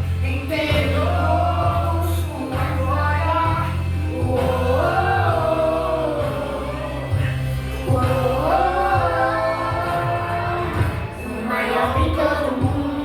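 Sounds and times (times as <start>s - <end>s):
band with bass line: 0.0s - 13.0s.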